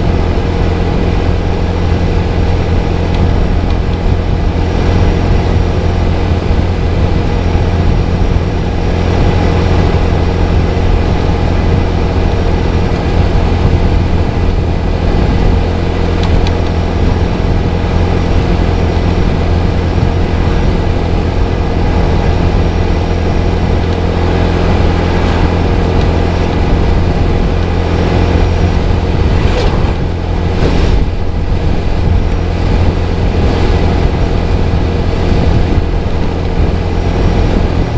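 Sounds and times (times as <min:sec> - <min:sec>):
motorcycle engine cruising: 0:00.0 - 0:37.9
wind and road noise: 0:00.0 - 0:37.9.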